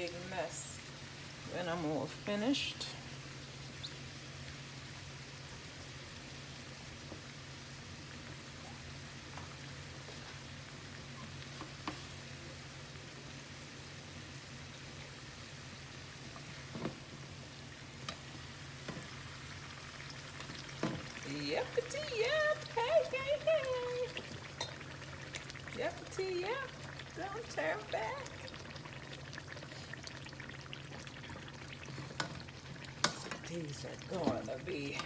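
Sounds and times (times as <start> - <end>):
dough sizzling in hot oil: 0.0 - 35.0.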